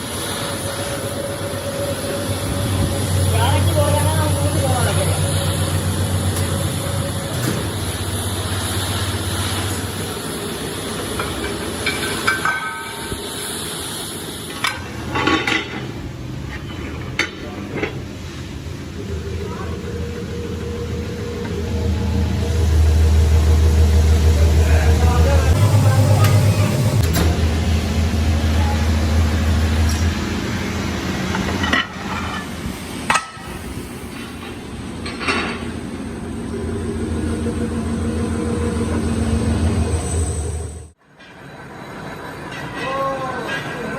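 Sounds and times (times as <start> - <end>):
workshop machinery humming: 0.0 - 15.4, 17.8 - 41.0.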